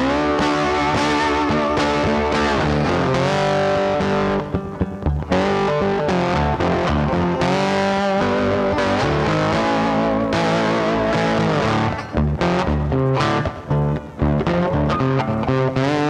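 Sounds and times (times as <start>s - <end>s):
distorted electric guitar music: 0.0s - 16.0s.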